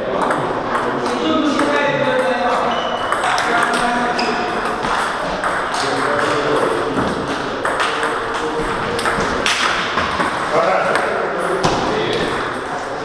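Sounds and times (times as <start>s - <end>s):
hum of voices: 0.0s - 13.0s
table tennis ball hits: 0.1s - 12.5s.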